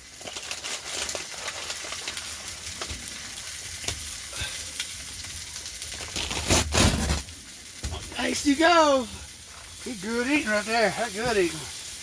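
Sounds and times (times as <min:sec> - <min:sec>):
chicken sizzling in frying oil: 0:00.0 - 0:12.0.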